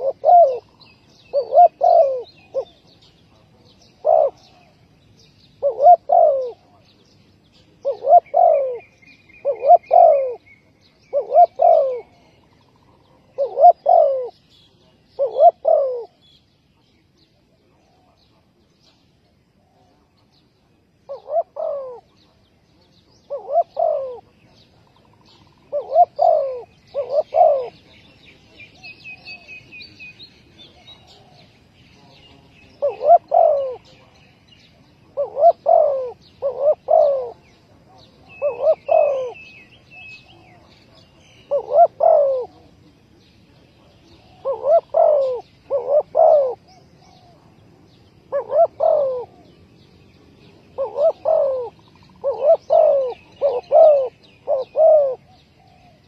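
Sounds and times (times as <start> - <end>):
dove cooing: 0.0 - 4.9, 5.6 - 6.8, 7.6 - 16.2, 21.0 - 22.4, 23.2 - 42.9, 43.5 - 56.0.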